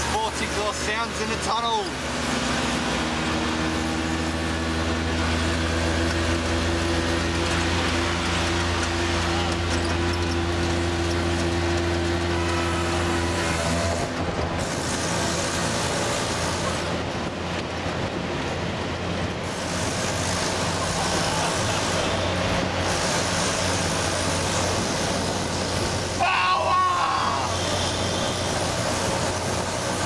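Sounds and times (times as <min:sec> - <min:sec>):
auto rickshaw engine growling: 0:00.0 - 0:30.0.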